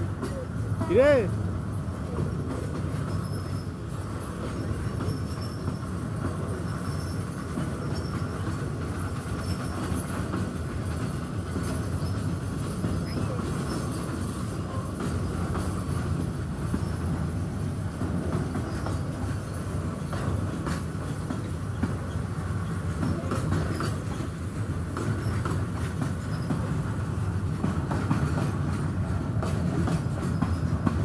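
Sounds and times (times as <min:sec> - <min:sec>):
train wheels clattering on rails: 0:00.0 - 0:31.0.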